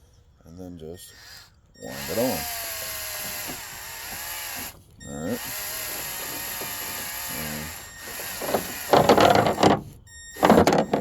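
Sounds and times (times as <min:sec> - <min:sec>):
cordless drill motor running: 0:01.1 - 0:11.0
handling noise: 0:01.9 - 0:11.0.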